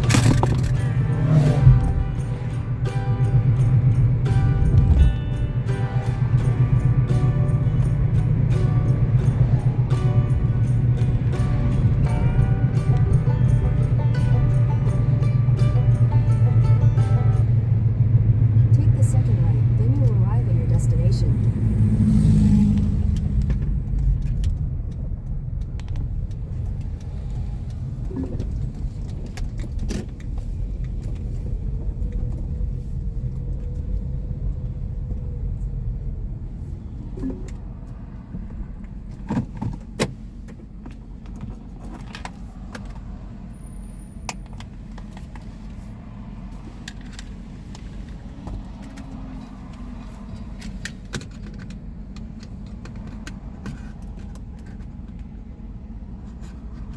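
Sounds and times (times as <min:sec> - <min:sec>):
light rattles and clicks: 0:00.0 - 0:43.5, 0:44.2 - 0:56.9
road and engine rumble: 0:00.0 - 0:56.9.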